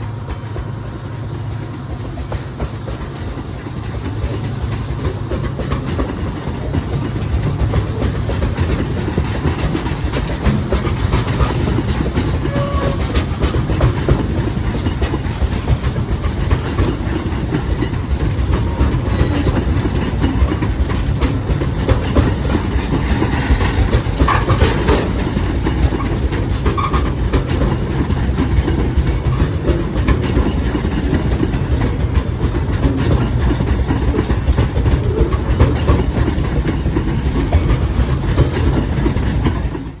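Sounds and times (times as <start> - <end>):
freight train rumbling: 0.0 - 40.0
train wheels clicking on rail joints: 0.0 - 40.0.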